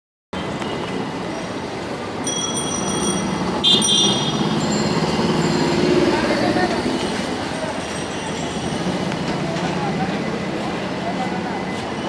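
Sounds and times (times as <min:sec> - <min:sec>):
heavy vehicle rumble: 0:00.4 - 0:12.0.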